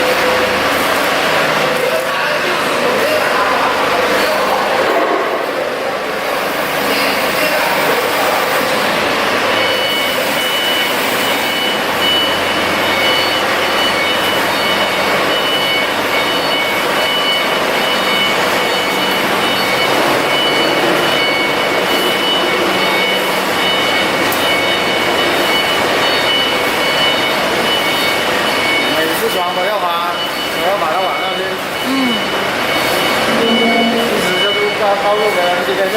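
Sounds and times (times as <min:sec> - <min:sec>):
diesel generator running: 0:00.0 - 0:35.9
high-pitched whine: 0:00.0 - 0:35.9.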